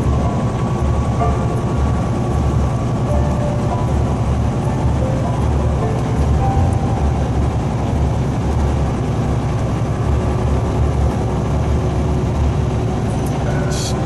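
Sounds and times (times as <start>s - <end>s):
diesel truck engine droning: 0.0s - 14.0s
road and tyre noise: 0.0s - 14.0s.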